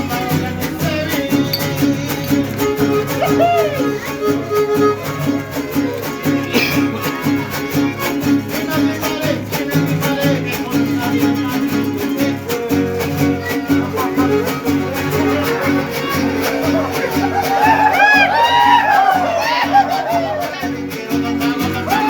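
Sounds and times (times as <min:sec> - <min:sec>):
strummed guitars: 0:00.0 - 0:22.0.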